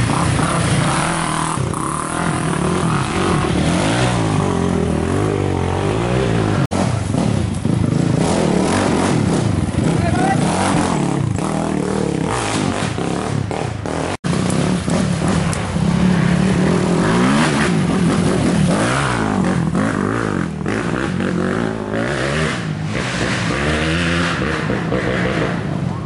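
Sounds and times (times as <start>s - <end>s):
quad engines revving: 0.0s - 26.0s.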